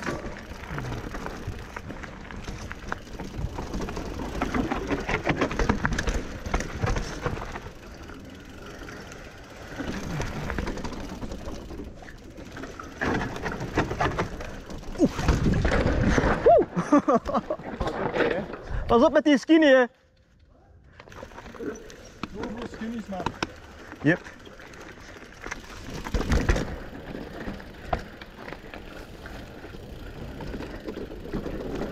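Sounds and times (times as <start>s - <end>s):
bike chain and frame rattling: 0.0s - 19.0s, 19.6s - 31.9s
bike tyres rolling over dirt: 0.0s - 19.1s, 20.2s - 31.9s.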